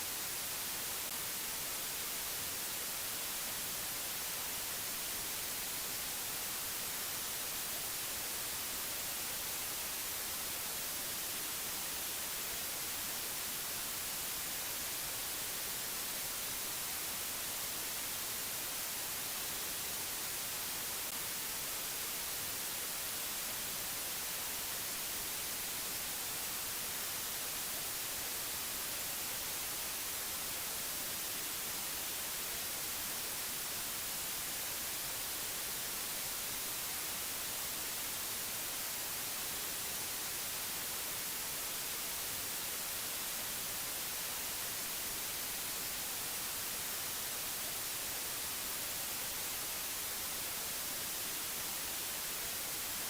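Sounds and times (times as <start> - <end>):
white-noise hiss: 0.0 - 53.0.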